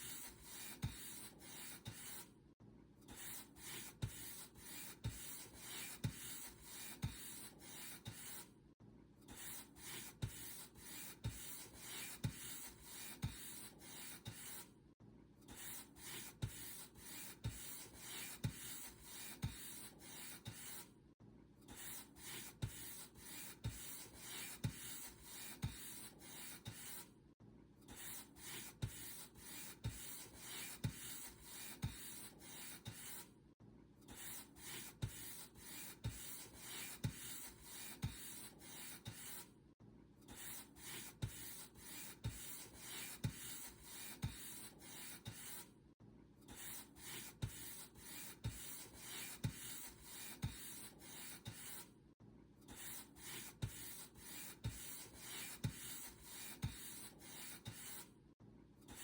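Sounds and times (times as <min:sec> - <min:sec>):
paint brush stroking a surface: 0:00.0 - 0:02.3, 0:03.2 - 0:08.5, 0:09.4 - 0:14.7, 0:15.6 - 0:20.9, 0:21.8 - 0:27.1, 0:28.0 - 0:33.3, 0:34.1 - 0:39.5, 0:40.4 - 0:45.7, 0:46.5 - 0:51.9, 0:52.8 - 0:58.1.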